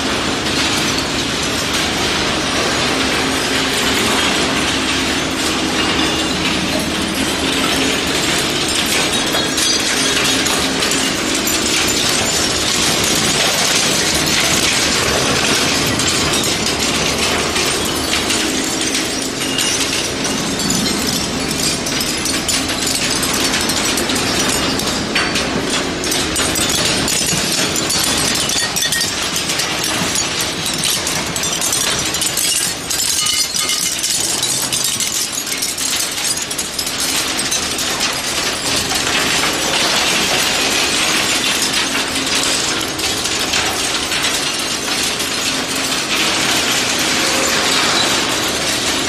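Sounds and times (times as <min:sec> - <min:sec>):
metal and plastic pieces rattling: 0:05.8 - 0:49.0.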